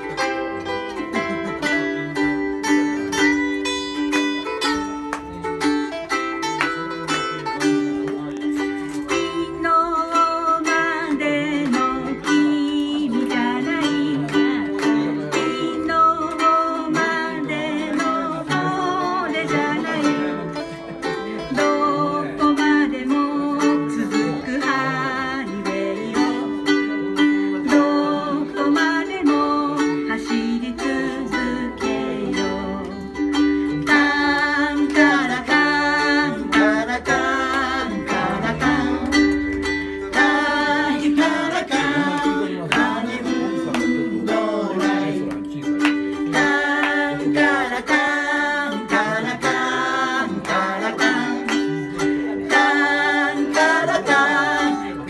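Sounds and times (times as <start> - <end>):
lead guitar playing: 0.0 - 55.0
ukulele strumming: 0.0 - 55.0
man singing: 8.8 - 55.0
woman singing: 8.8 - 55.0.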